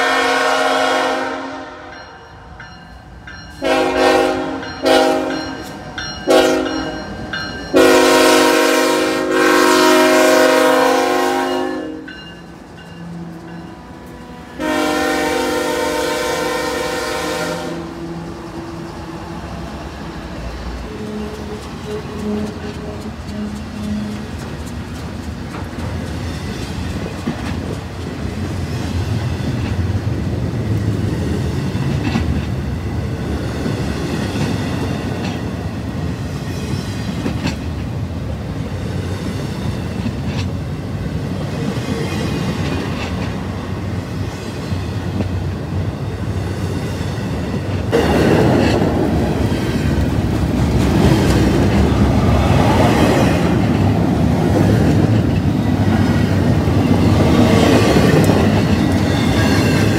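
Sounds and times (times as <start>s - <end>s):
train wheels rumbling on rail: 0.0s - 59.9s
rail clicks: 1.8s - 9.0s, 9.6s - 14.9s, 17.7s - 59.9s.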